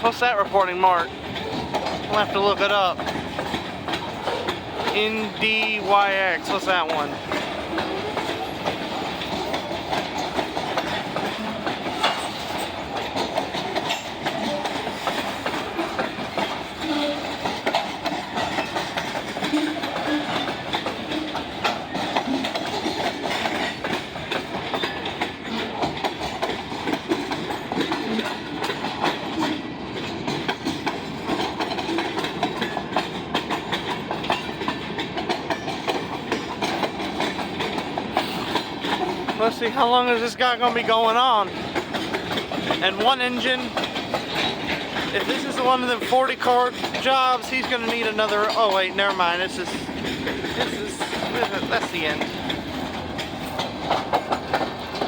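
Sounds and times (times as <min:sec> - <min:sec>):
freight train wheels rumbling: 0:00.0 - 0:55.0
wheels clicking over rail joints: 0:00.0 - 0:55.0.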